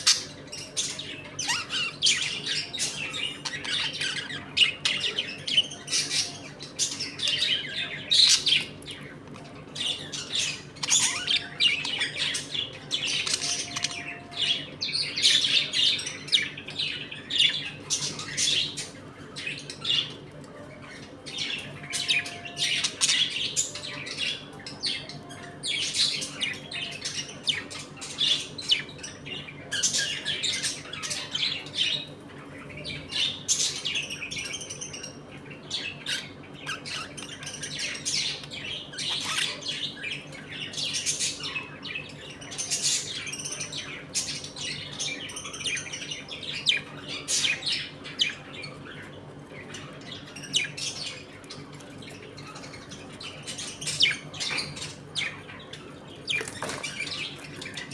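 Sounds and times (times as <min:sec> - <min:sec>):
budgerigars chattering and squawking: 0:00.0 - 0:57.9.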